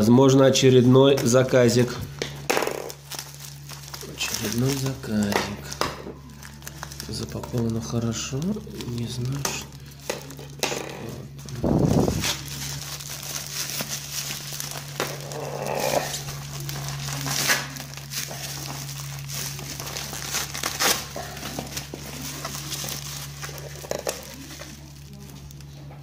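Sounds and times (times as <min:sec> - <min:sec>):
plastic and bubble wrap crinkling: 0:00.0 - 0:26.0
steady low hum: 0:00.0 - 0:26.0.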